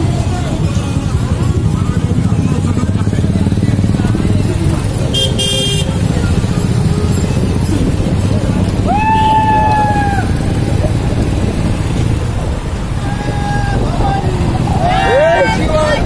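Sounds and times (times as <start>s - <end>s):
motorcycles and traffic rumbling: 0.0s - 16.0s.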